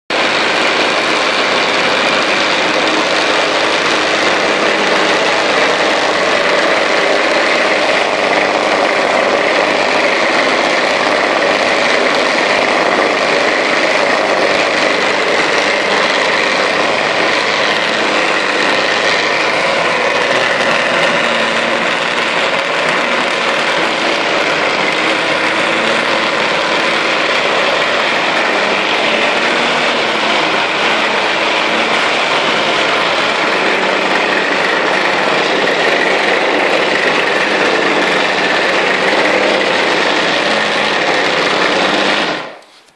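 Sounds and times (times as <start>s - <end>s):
motorised rug beater running: 0.1s - 42.9s.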